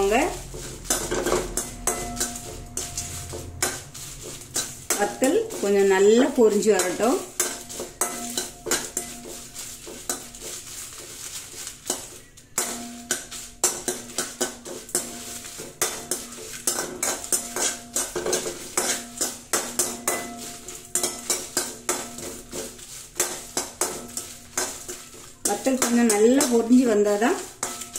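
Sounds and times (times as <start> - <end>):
faint sizzle: 0.0 - 27.9
metal spoon scraping a pan: 0.0 - 27.9.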